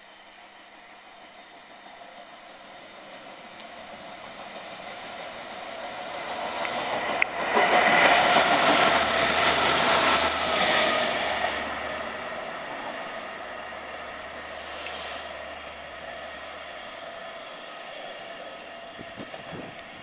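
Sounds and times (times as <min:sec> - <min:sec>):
train passing with whine: 0:00.0 - 0:20.0.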